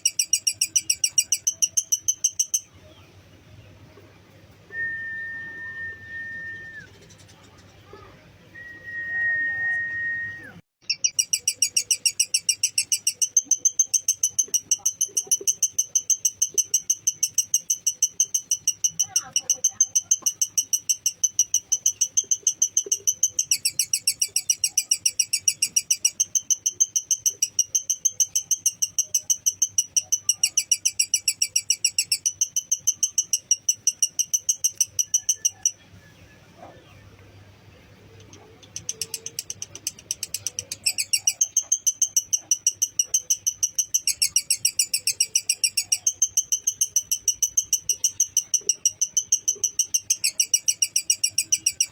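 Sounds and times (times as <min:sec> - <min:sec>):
lovebird chattering trill: 0:00.0 - 0:03.0, 0:10.8 - 0:36.0, 0:37.7 - 0:51.9.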